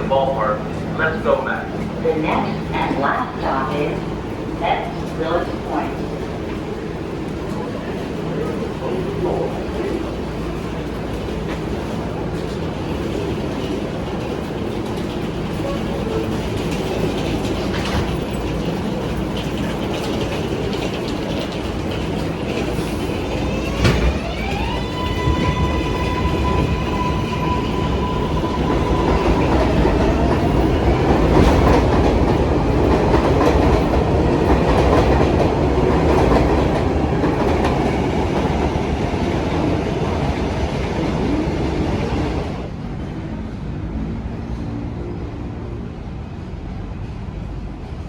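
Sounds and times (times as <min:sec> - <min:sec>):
subway wheels clacking over rails: 0:00.0 - 0:48.0.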